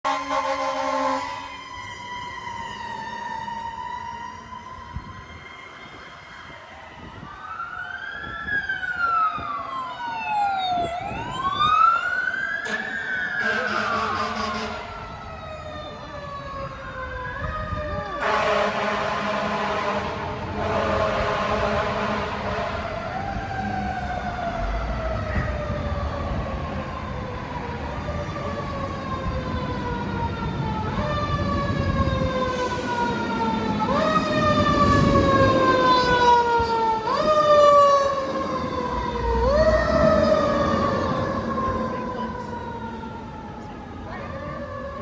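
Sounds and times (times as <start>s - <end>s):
fire truck siren wailing: 0.0s - 45.0s.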